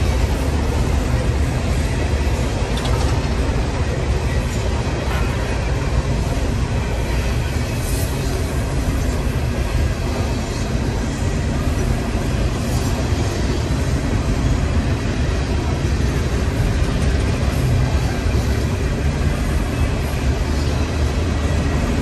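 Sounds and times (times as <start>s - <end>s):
steel train wheels rumbling on rails: 0.0s - 22.0s.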